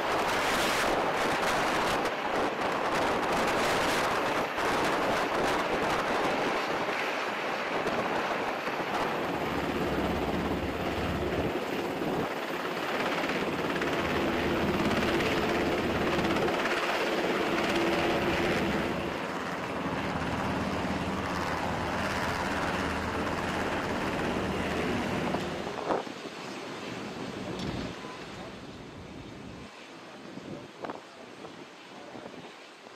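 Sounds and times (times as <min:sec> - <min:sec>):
helicopter hovering: 0:00.0 - 0:30.1.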